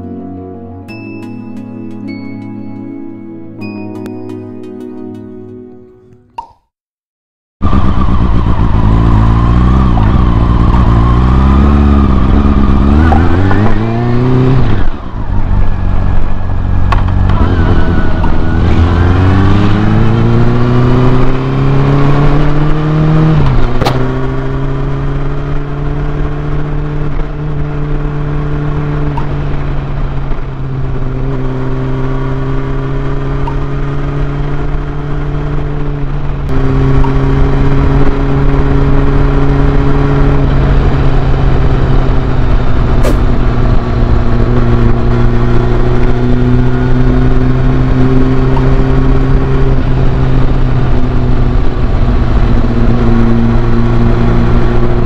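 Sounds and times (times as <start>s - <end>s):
motorcycle engine revving: 7.6s - 55.0s.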